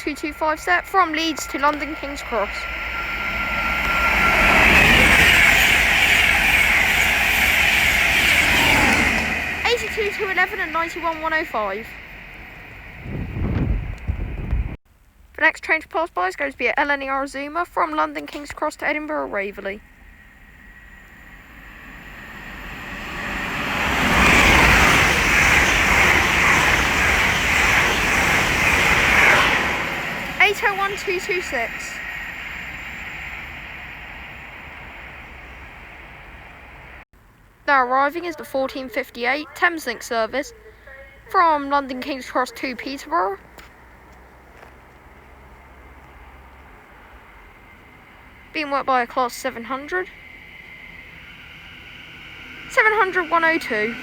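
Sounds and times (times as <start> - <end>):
electric train passing at speed: 0.0 - 14.8, 16.2 - 54.0.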